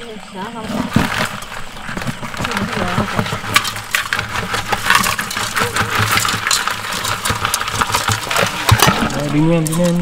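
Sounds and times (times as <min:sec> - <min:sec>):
crabs clattering in metal pot: 0:00.4 - 0:10.0.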